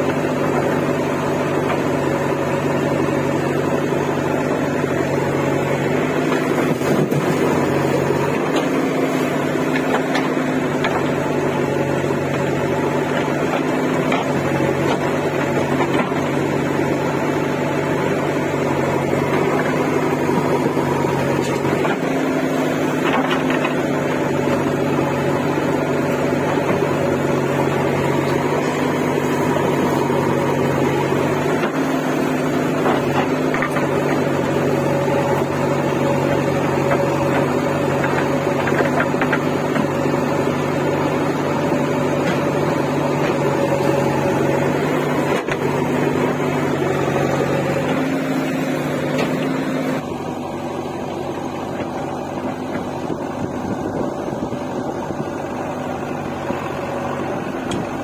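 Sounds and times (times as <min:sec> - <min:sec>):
backhoe digging and dumping soil: 0:00.0 - 0:58.0
diesel engine running: 0:00.0 - 0:58.0.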